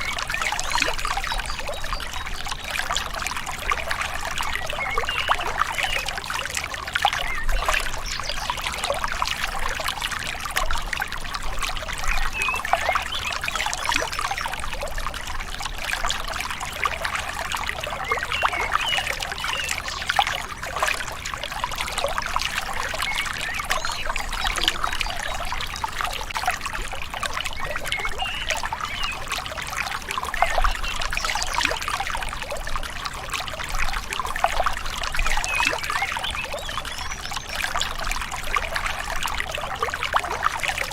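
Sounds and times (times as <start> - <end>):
river trickling and gurgling: 0.0 - 40.9.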